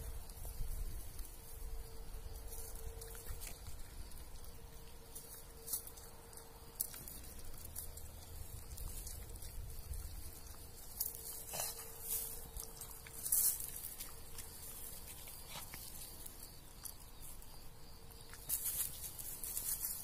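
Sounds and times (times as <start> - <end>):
dry grass rustling on microphone: 0.0 - 20.0
faint steady hum: 0.0 - 20.0.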